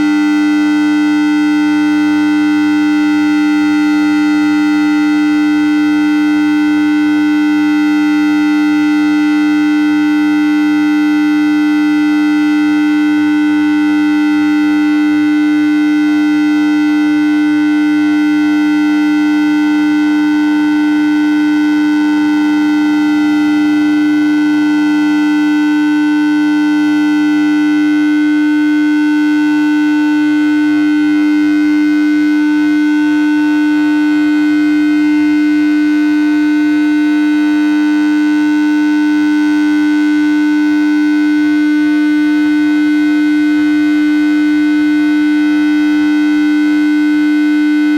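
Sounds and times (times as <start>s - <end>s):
electronic hum and whine: 0.0s - 0.4s, 1.6s - 47.9s.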